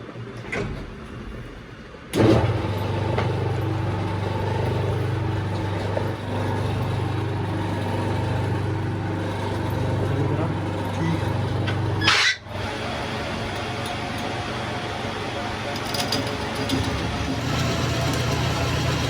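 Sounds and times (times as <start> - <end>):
engine starting and running: 0.4 - 19.0.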